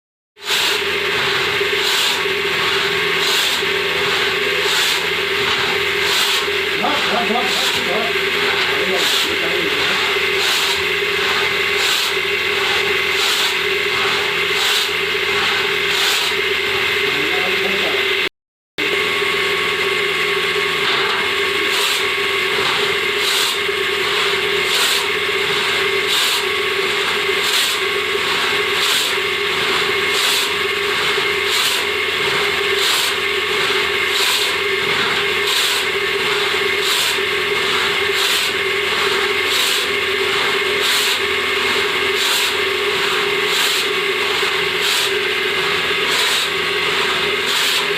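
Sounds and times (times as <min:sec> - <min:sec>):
hand saw cutting wood: 0:00.4 - 0:17.8, 0:20.8 - 0:47.9.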